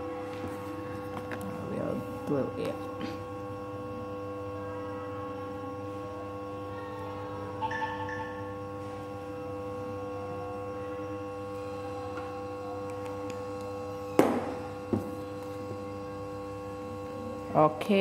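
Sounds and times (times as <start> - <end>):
hum of held tones: 0.0 - 18.0.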